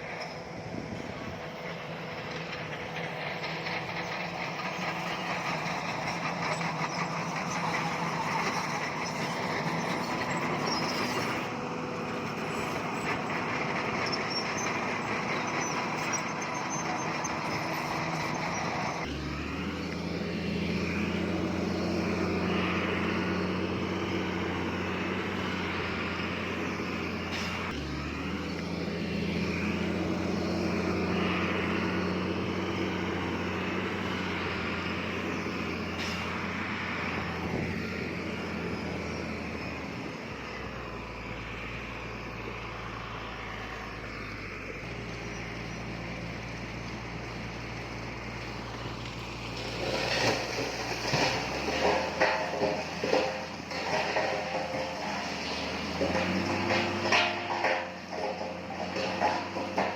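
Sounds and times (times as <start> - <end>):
diesel machinery rattle: 0.0 - 59.9.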